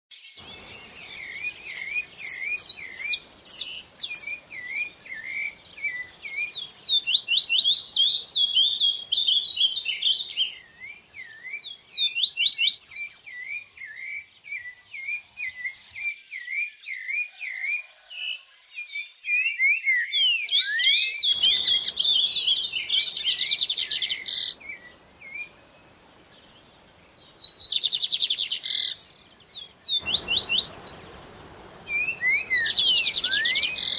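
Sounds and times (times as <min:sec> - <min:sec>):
songbirds chirping: 0:00.1 - 0:33.9
high sweeping bird trills: 0:00.4 - 0:15.7, 0:20.6 - 0:25.7, 0:26.9 - 0:33.9.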